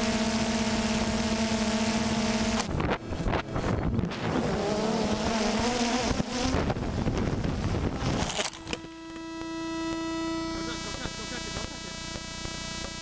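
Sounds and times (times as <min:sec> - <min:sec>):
drone propellers buzzing: 0:00.0 - 0:13.0
steady hum: 0:00.0 - 0:13.0.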